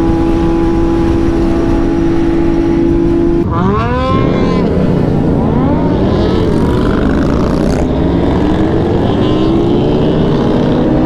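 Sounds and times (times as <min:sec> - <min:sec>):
motorcycle engine accelerating: 0:00.0 - 0:11.0
wind noise on microphone: 0:00.0 - 0:11.0.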